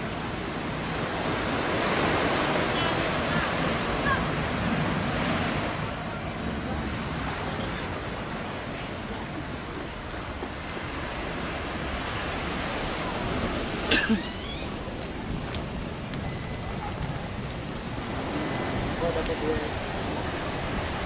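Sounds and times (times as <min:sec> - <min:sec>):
surf rushing: 0:00.0 - 0:21.0
wind buffeting microphone: 0:00.0 - 0:21.0.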